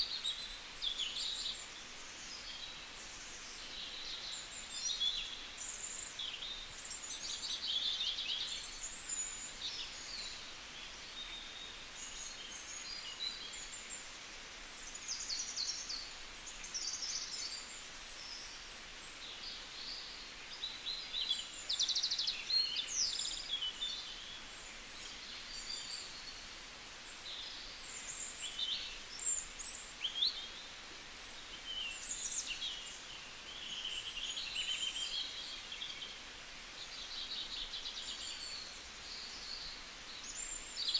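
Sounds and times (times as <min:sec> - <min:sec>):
small birds chirping and trilling: 0:00.0 - 0:40.9.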